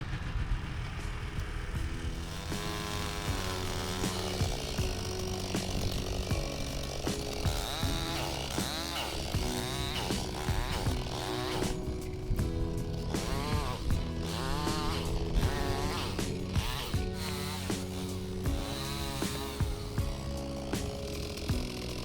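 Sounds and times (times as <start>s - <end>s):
background music with beat: 0.0s - 22.0s
chainsaw revving: 1.4s - 22.0s.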